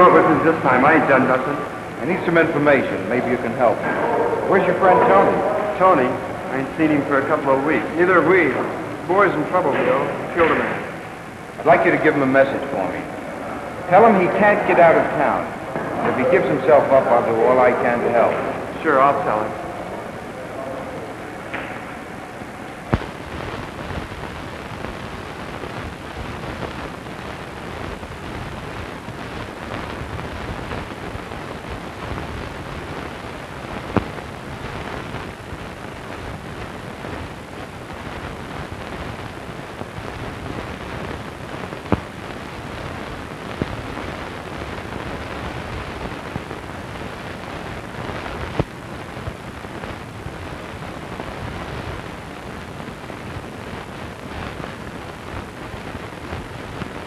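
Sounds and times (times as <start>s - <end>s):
film soundtrack hiss and crackle: 0.0s - 57.0s.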